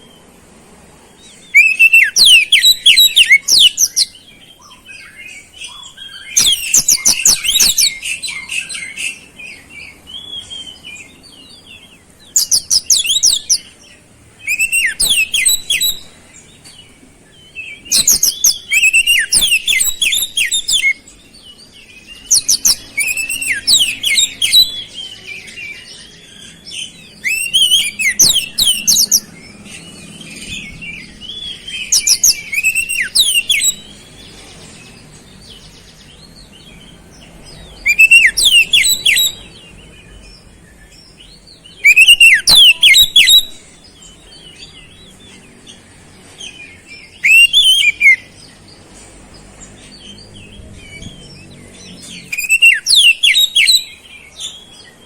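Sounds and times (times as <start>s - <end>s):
bird singing: 0.0s - 55.0s
soft bird twittering: 1.0s - 55.0s.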